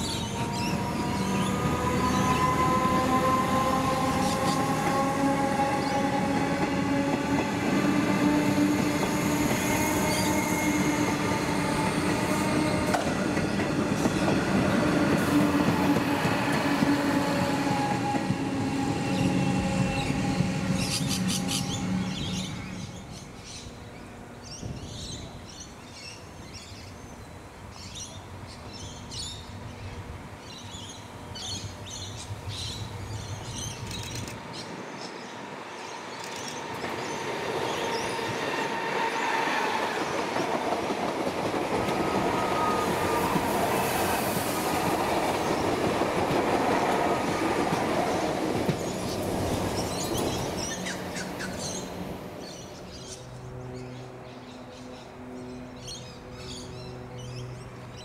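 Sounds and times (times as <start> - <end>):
train wheels rumbling on rails: 0.0 - 27.2, 27.8 - 54.2
birds chirping: 0.0 - 39.4, 40.1 - 58.0
electric train whine: 0.0 - 58.0.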